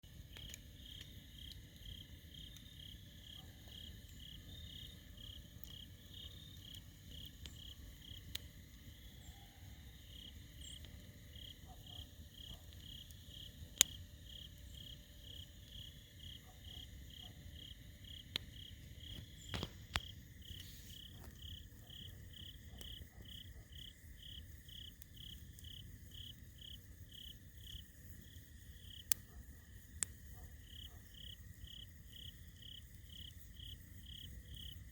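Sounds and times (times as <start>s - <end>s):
campfire popping: 0.1s - 9.2s, 9.9s - 34.9s
insect chirping: 0.2s - 34.9s.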